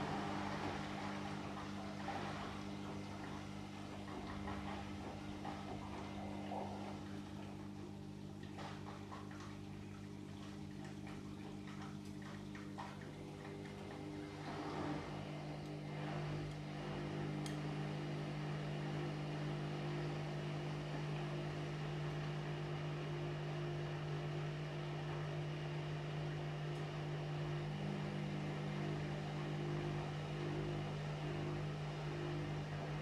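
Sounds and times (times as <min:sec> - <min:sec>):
washing machine motor humming: 0:00.0 - 0:33.0.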